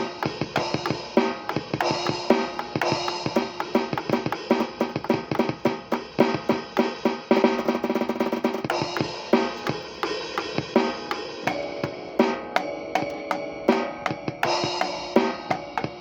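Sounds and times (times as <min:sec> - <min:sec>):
drum kit playing: 0:00.0 - 0:16.0.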